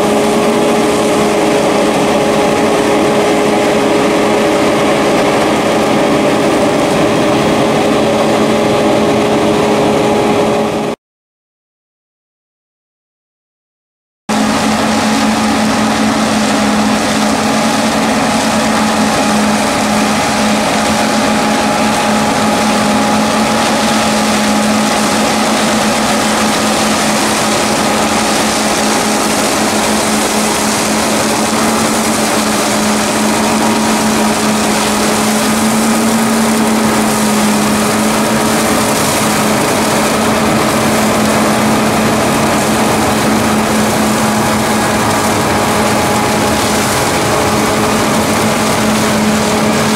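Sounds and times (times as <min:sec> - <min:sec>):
tractor and mower droning: 0:00.0 - 0:11.0, 0:14.3 - 0:49.9.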